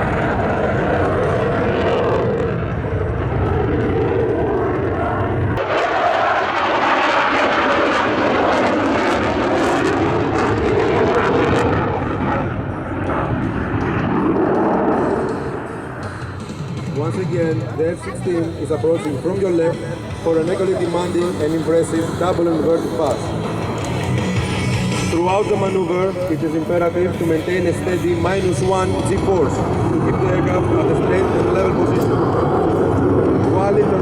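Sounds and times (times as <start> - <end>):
jet engine roaring: 0.0 - 34.0.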